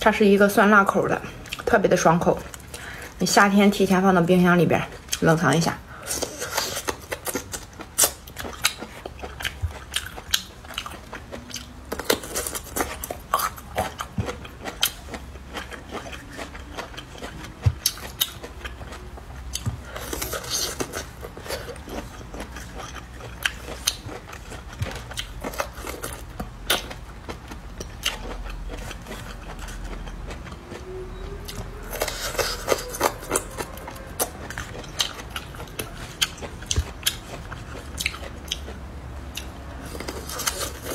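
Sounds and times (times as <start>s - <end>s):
crisp biting and chewing: 6.1s - 38.8s, 39.4s - 40.9s.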